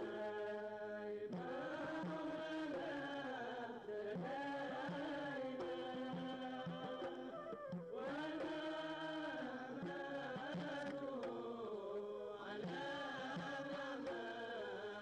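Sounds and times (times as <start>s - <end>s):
chant-like sung melody: 0.0s - 15.0s.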